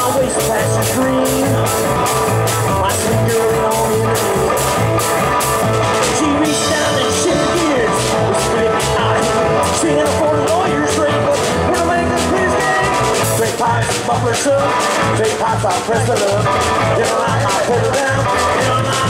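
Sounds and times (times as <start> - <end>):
drum beat: 0.0 - 19.0
electric guitar: 0.0 - 19.0
man singing: 0.0 - 19.0.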